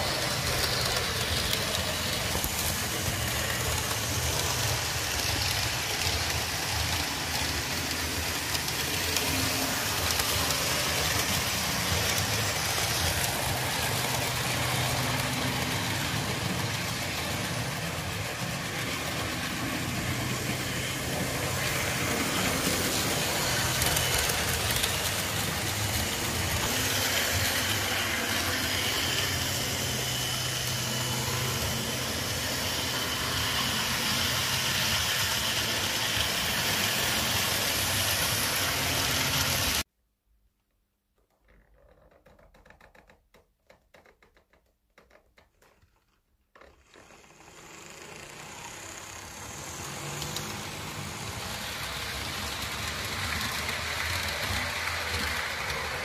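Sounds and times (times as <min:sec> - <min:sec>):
model train motors whirring: 0:00.0 - 0:39.8, 0:46.5 - 0:56.0
wheels rolling on track: 0:00.0 - 0:39.8, 0:41.5 - 0:56.0.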